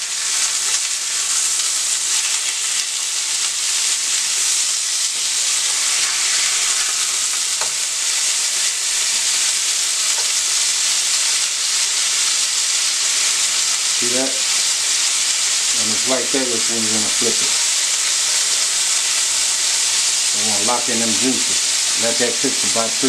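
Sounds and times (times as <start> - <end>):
burger patties sizzling in frying pan: 0.0 - 23.0.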